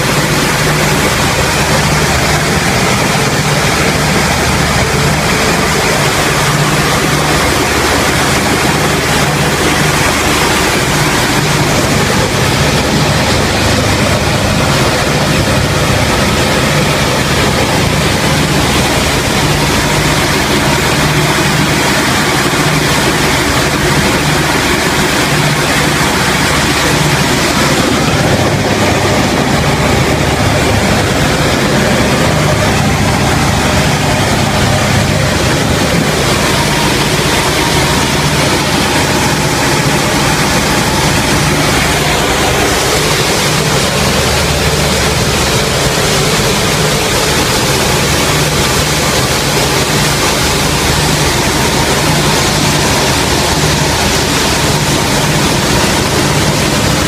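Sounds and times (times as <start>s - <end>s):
propeller aircraft engine droning: 0.0s - 57.0s
rush of airflow: 0.0s - 57.0s.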